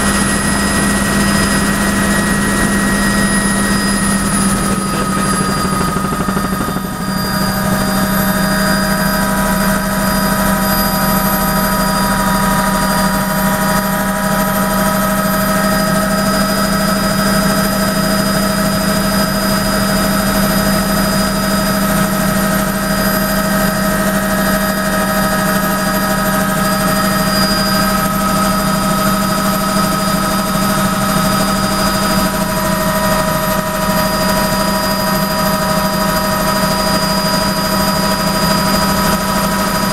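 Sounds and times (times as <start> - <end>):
helicopter cabin drone: 0.0 - 39.9
turbine whining: 0.0 - 39.9.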